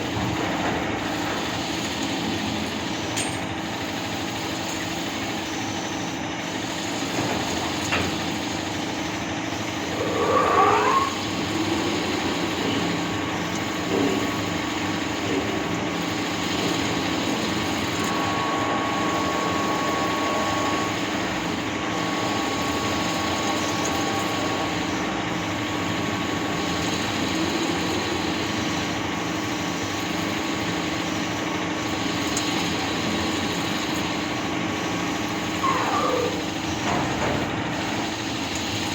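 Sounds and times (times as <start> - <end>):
lathe humming and whining: 0.0 - 38.9
gliding machine whine: 5.1 - 38.6.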